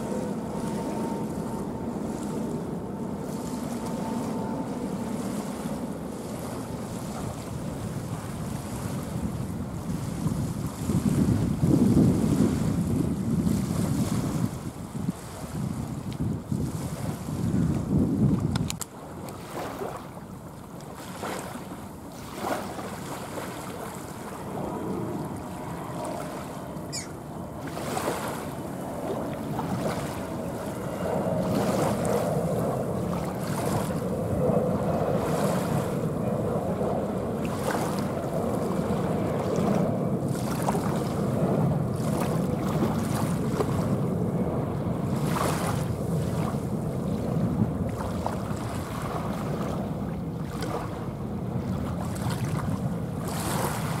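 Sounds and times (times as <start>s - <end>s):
wind hitting microphone: 0.0s - 19.7s, 22.3s - 54.0s
jet engines rumbling overhead: 0.0s - 54.0s.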